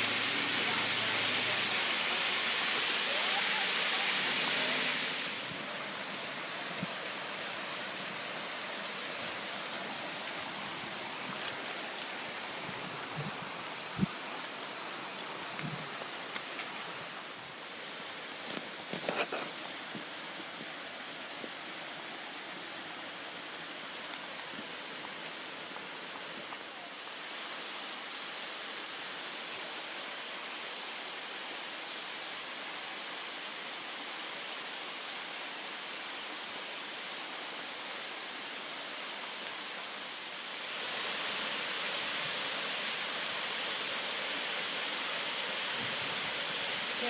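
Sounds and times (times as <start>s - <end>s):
stream and waterfall rushing: 0.0s - 47.0s.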